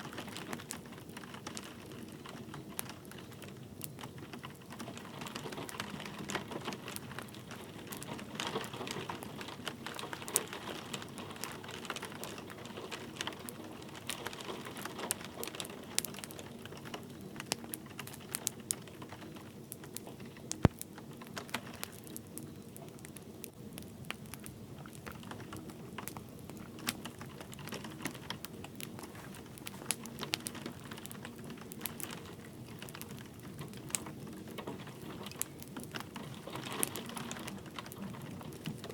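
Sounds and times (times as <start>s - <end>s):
light rain hiss: 0.0s - 38.9s
wood fire crackling and popping: 0.0s - 38.9s.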